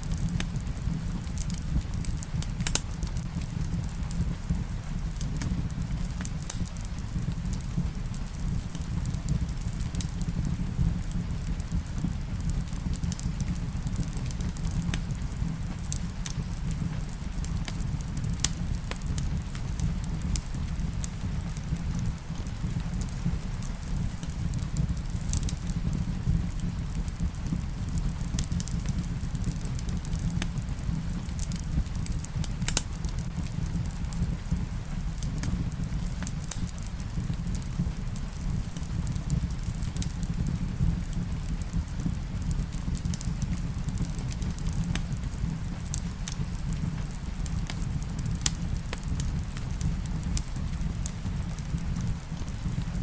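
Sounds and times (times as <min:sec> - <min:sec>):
rain falling: 0:00.0 - 0:52.9
wood fire crackling: 0:00.0 - 0:53.0.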